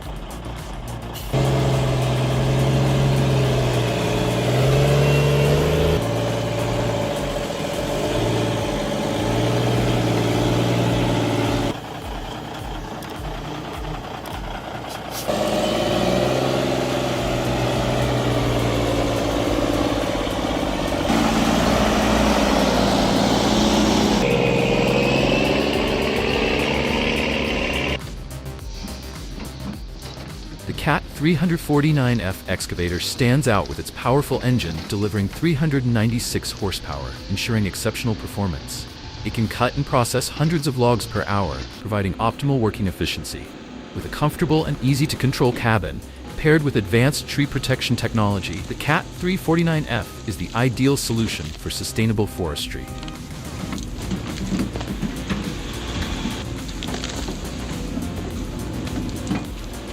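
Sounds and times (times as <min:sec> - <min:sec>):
heavy truck engines labouring: 0:00.0 - 0:28.0, 0:29.0 - 0:59.9.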